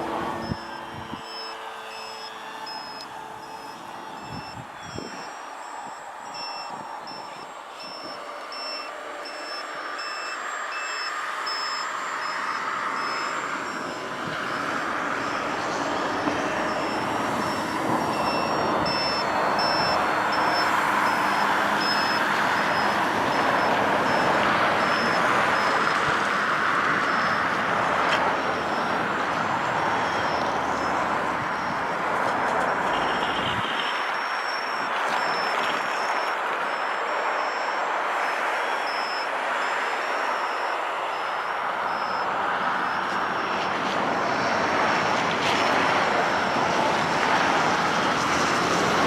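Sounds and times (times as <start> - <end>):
high electronic beeps: 0.0 - 43.6.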